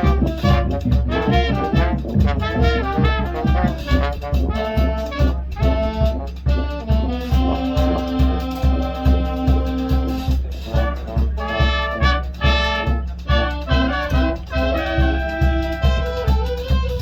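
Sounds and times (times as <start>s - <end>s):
brass chords: 0.0s - 17.0s
marching band playing: 0.0s - 17.0s
steady low drum beat: 0.0s - 17.0s.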